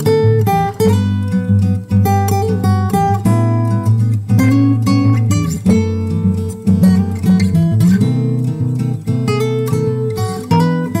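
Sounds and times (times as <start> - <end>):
acoustic guitar background music: 0.0 - 11.0.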